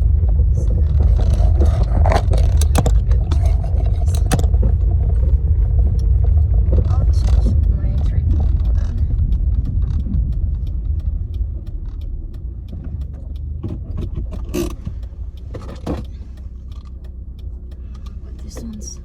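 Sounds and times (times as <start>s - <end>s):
car road and engine rumble: 0.0s - 19.0s
faint ticking: 0.0s - 19.0s.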